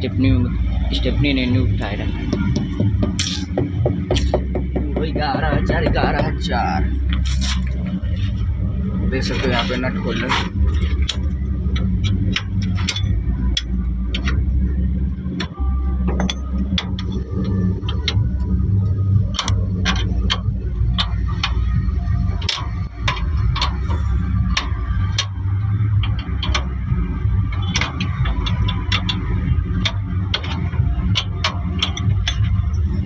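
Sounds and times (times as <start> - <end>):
metal clicks and clanks of wheel nuts: 2.1 - 8.4, 9.2 - 14.5, 15.3 - 18.5, 19.3 - 33.0.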